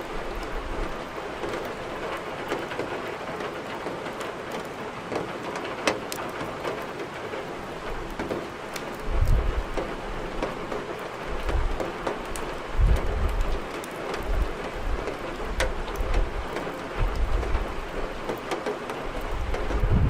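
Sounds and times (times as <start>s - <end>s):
burning wood crackling: 0.0s - 20.0s
steady rain: 0.0s - 20.0s.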